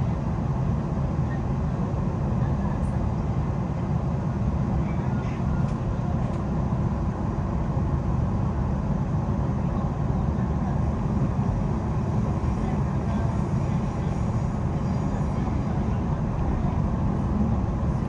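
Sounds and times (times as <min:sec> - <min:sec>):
train running heard from inside: 0:00.0 - 0:18.0.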